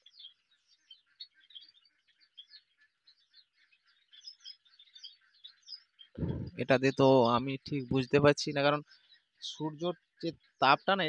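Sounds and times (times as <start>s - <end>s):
sparrows chirping chatter: 0.0s - 11.0s.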